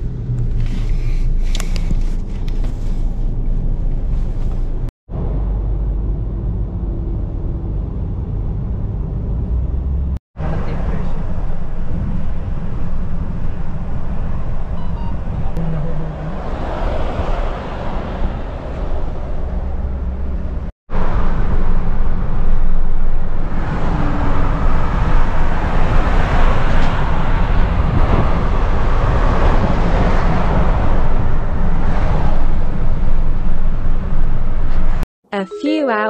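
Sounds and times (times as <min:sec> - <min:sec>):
car road and wind noise: 0:00.0 - 0:35.0.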